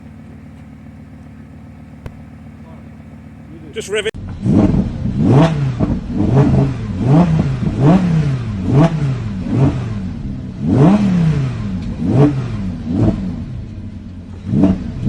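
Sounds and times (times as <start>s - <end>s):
car engine revving in blips: 0.0s - 15.0s.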